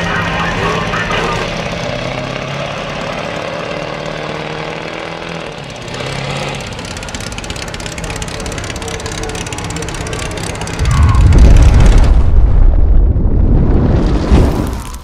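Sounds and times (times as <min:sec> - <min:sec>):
dune buggy engine running: 0:00.0 - 0:13.1.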